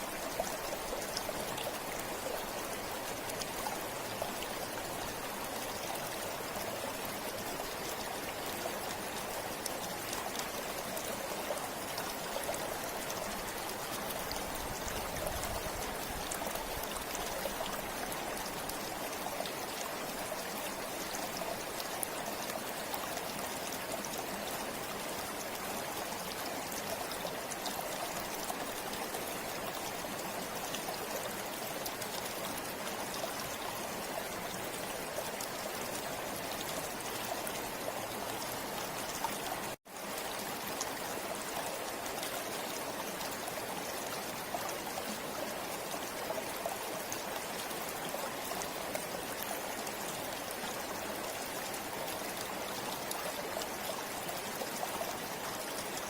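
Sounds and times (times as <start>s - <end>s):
river water rushing and splashing: 0.0s - 56.0s.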